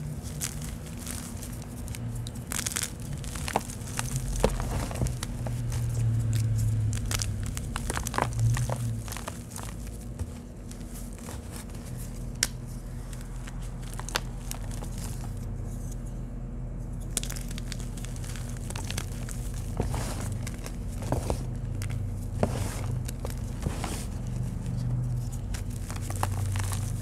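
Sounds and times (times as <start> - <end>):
chalk crumbling and crunching: 0.0 - 16.0, 17.0 - 27.0
chalk pieces crackling: 0.0 - 16.1, 17.0 - 27.0
steady low hum: 0.0 - 27.0.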